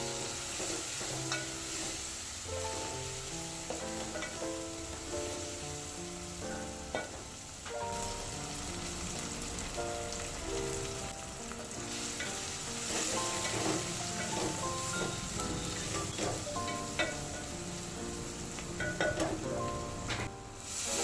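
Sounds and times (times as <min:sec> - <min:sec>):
background music: 0:00.0 - 0:21.0
food sizzling in oil: 0:00.0 - 0:21.0.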